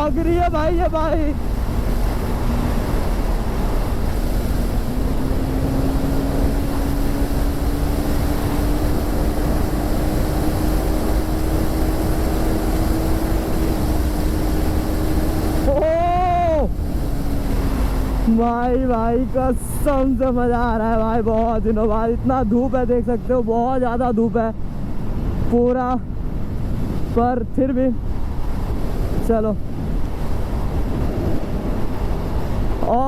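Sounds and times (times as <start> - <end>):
wind rush on microphone: 0.0 - 33.0.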